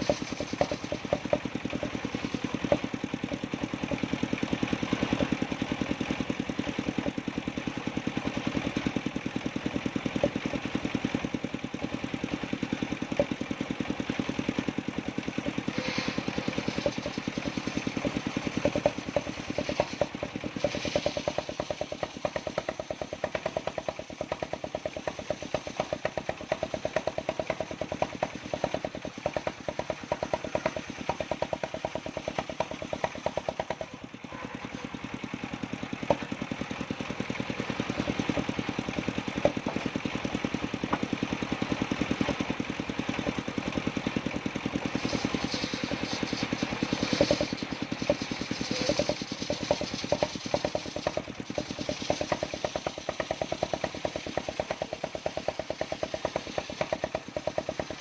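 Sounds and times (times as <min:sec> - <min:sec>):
saw blade cutting timber: 0:00.0 - 0:58.0
sawmill engine running: 0:00.0 - 0:58.0.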